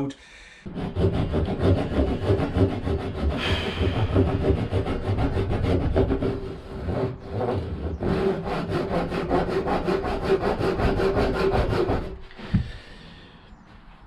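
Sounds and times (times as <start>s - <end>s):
hand saw cutting wood: 0.7s - 12.7s.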